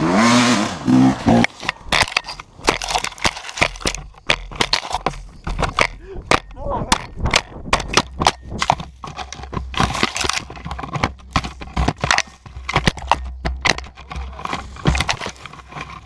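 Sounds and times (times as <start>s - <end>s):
camera knocking and scraping down slope: 1.2s - 16.0s.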